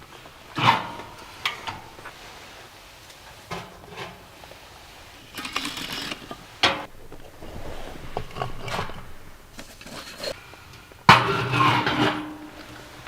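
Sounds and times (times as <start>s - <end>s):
rustling and clicking: 0.0s - 13.0s.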